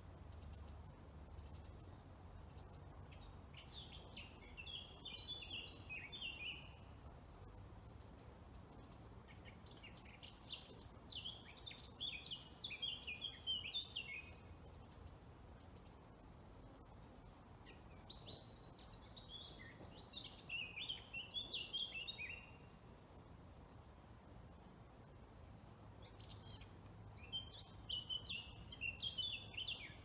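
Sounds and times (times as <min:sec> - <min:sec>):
faint steady background hiss: 0:00.0 - 0:30.0
songbird singing: 0:00.0 - 0:30.0.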